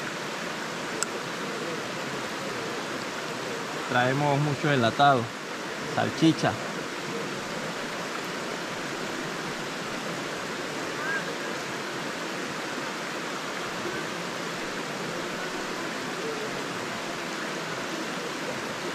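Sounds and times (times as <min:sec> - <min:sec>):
stream running over stones: 0:00.0 - 0:18.9.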